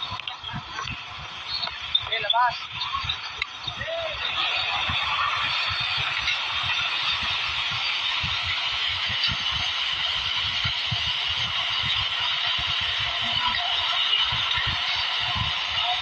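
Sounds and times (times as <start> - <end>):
machinery and airflow noise: 0.0 - 16.0.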